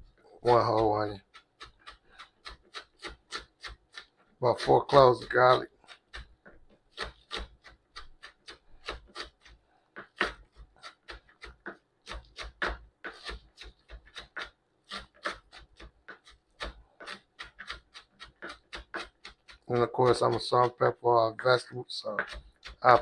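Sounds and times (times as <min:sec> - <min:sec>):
knife chopping on cutting board: 0:00.5 - 0:21.0, 0:22.1 - 0:23.0.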